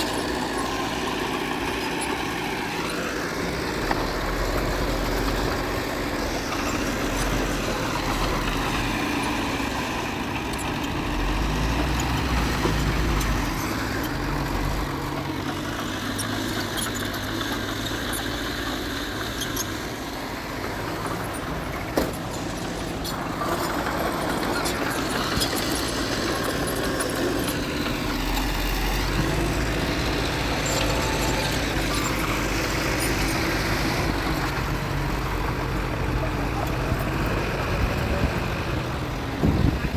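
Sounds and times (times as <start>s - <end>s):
diesel machinery engine rumble: 0.0s - 39.9s.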